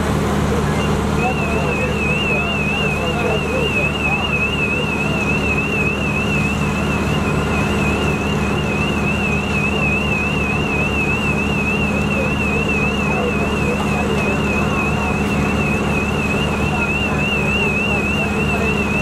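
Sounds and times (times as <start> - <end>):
large engine running: 0.0 - 19.0
shrill electronic alarm warbling: 1.2 - 19.0.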